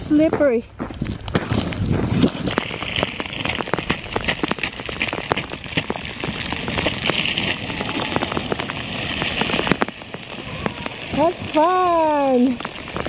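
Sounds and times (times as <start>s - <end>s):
ice pellets pelting surfaces: 1.5s - 13.0s.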